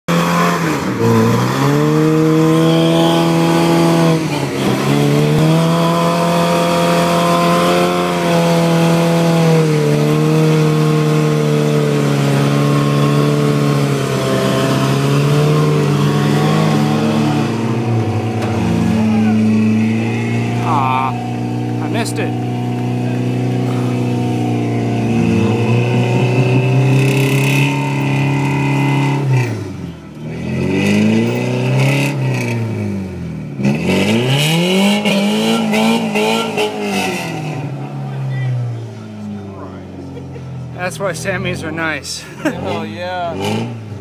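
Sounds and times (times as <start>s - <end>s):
pickup engine at high revs: 0.1s - 44.0s.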